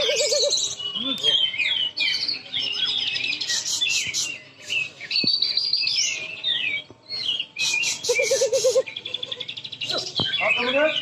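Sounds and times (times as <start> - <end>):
caged birds singing: 0.0 - 11.0.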